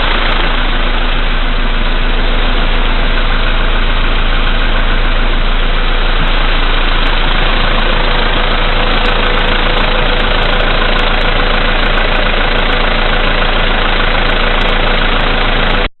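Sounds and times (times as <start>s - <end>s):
car engine idling with knock: 0.0s - 15.9s.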